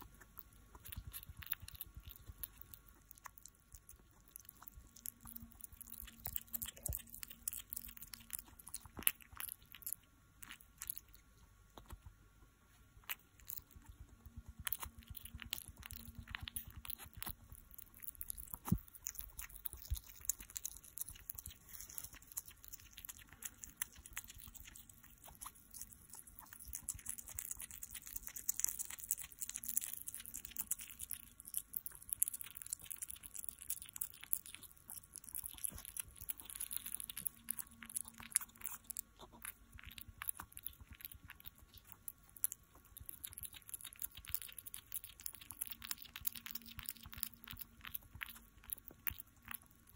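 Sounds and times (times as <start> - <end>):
hedgehog chewing clicks: 0.0 - 12.1, 13.0 - 49.9.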